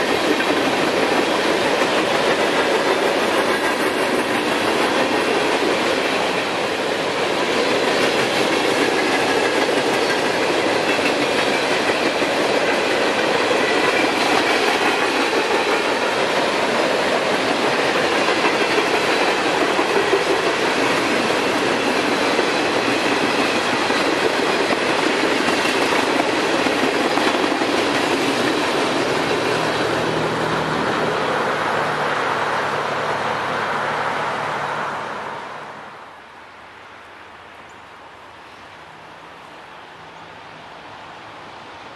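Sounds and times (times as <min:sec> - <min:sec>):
freight train rolling past: 0:00.0 - 0:37.3.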